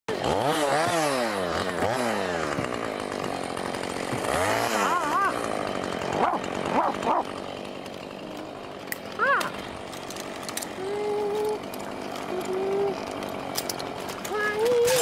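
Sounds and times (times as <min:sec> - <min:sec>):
chainsaw revving: 0:00.1 - 0:15.0.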